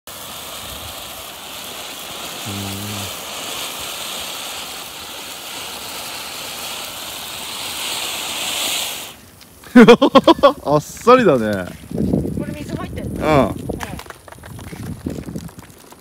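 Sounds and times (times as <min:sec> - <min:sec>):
firework fountain hissing: 0:00.0 - 0:16.0.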